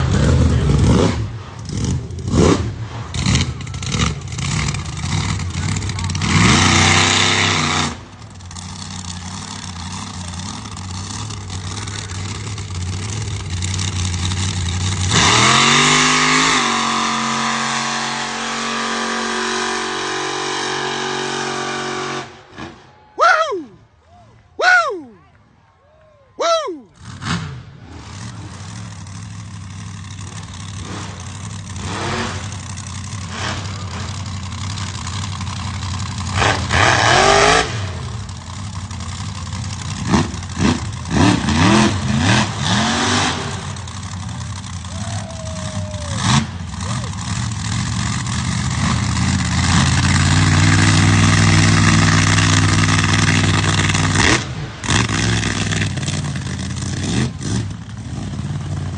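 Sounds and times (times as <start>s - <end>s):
monster truck engine revving: 0.0s - 23.8s, 26.4s - 58.9s.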